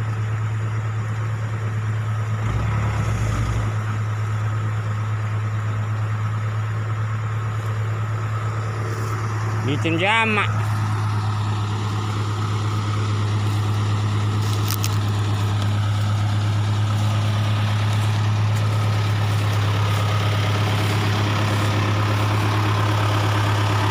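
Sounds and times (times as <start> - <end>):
vehicle engine idling: 0.0 - 23.9.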